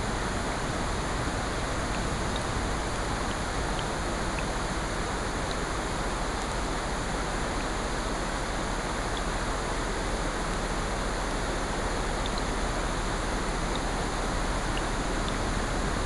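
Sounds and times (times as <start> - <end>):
rain: 0.0 - 16.0.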